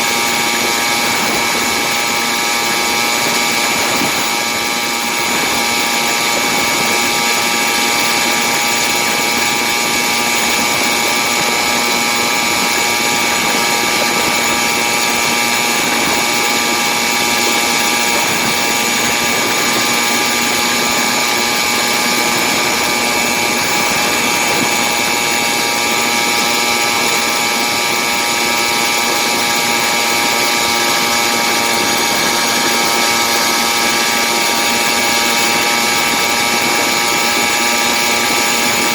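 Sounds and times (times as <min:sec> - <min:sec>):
two-stroke engine under load: 0:00.0 - 0:38.9.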